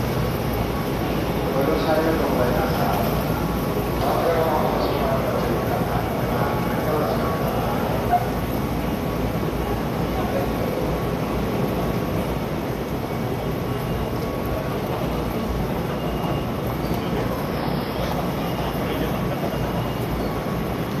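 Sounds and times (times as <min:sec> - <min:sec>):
crowd walking and murmuring: 0:00.0 - 0:21.0.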